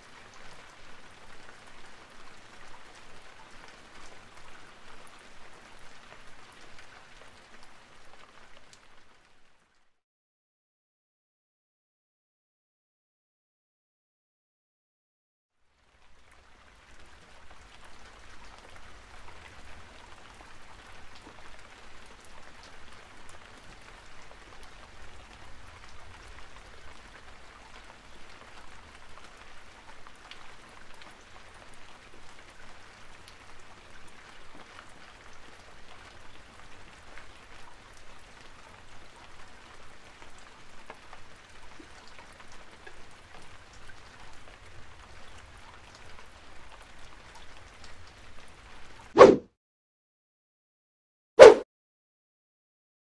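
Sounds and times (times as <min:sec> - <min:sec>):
rain-like patter: 0:00.0 - 0:10.0, 0:15.5 - 0:49.2.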